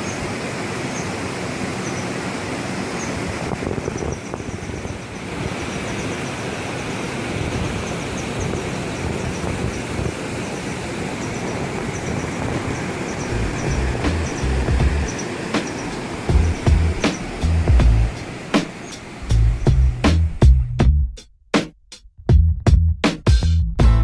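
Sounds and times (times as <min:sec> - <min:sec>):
stream rushing over rocks: 0:00.0 - 0:19.4.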